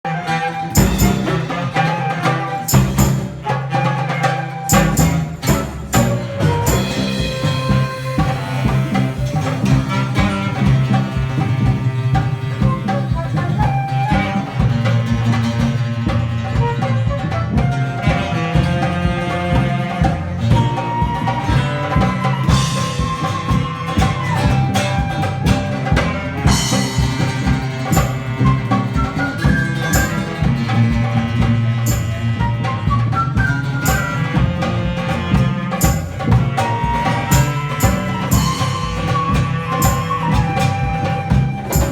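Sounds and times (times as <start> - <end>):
busy steady drumming: 0.0 - 41.9
live band melody: 0.0 - 41.9.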